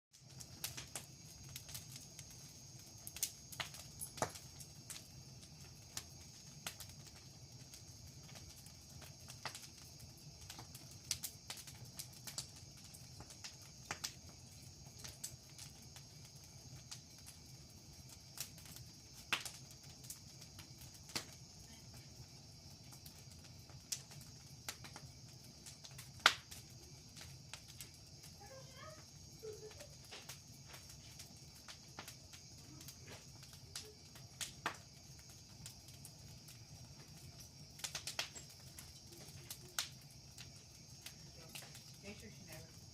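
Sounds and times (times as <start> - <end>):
wood bonfire crackling: 0.1 - 42.9
sharp fire pops: 0.2 - 42.9
high insect chirring: 0.3 - 42.9.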